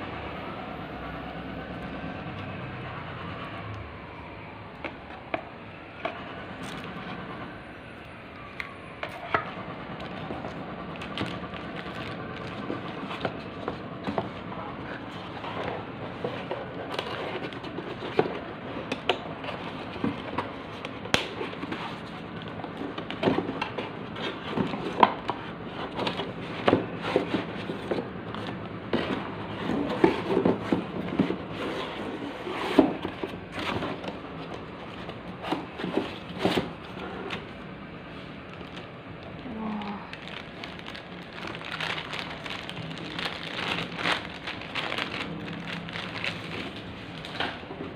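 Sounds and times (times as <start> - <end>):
cardboard and plastic rustling: 4.7 - 7.6, 8.3 - 47.9.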